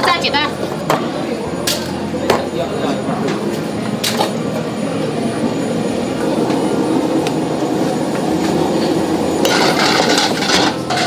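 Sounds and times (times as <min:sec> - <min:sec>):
busy kitchen din: 0:00.0 - 0:11.0.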